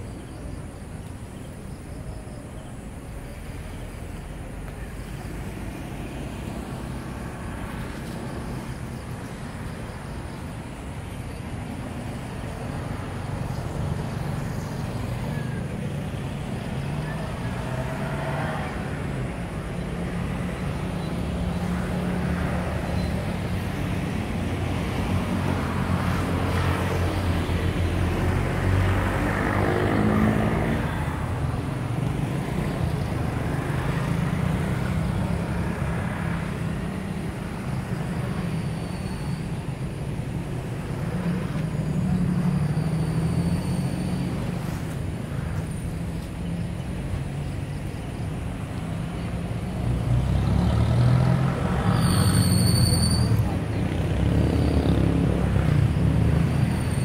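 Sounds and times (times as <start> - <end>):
low urban rumble: 0.0 - 57.0.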